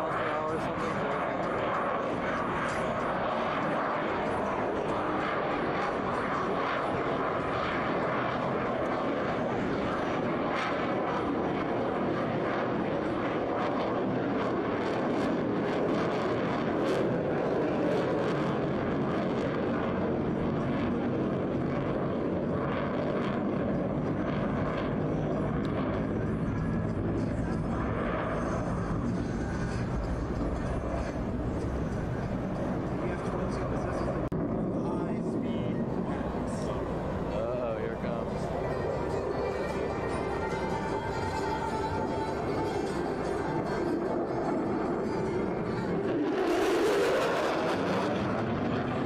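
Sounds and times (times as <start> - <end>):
jet engines roaring in flight: 0.0 - 49.0.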